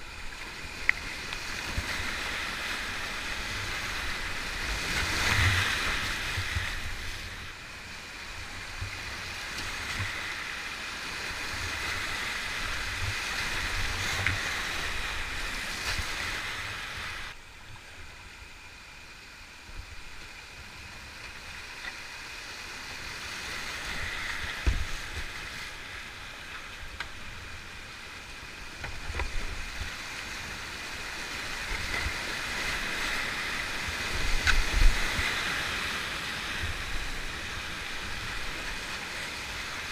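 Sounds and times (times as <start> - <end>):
whitewater roaring: 0.0 - 39.9.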